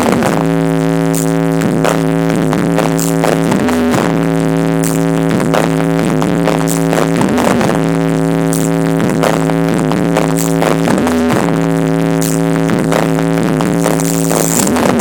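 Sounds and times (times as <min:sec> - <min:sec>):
electronic dance music: 0:00.0 - 0:15.0.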